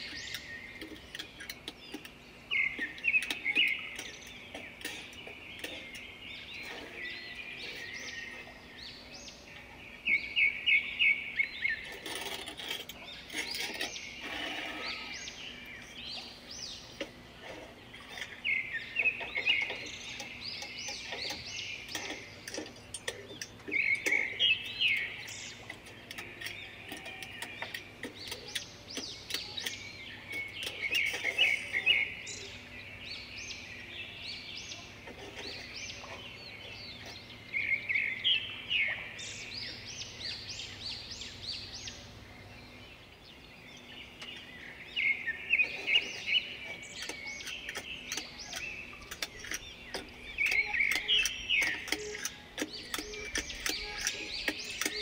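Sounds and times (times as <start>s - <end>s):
songbird singing rapid chirps: 0.0s - 55.0s.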